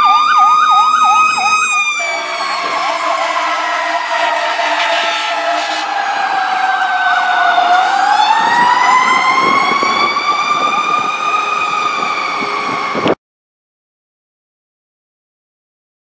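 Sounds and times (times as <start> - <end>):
fire truck siren wailing: 0.0 - 13.2.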